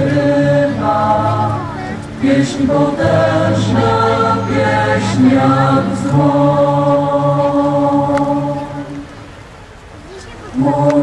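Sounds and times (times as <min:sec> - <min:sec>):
choir singing chant-like chords: 0:00.0 - 0:09.3, 0:10.5 - 0:11.0.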